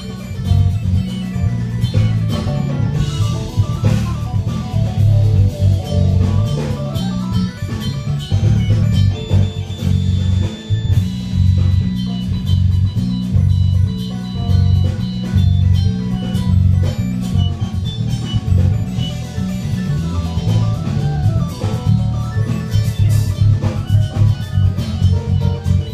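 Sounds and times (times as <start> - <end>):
drum kit: 0.0 - 25.9
electric bass: 0.0 - 25.9
piano: 0.0 - 25.9.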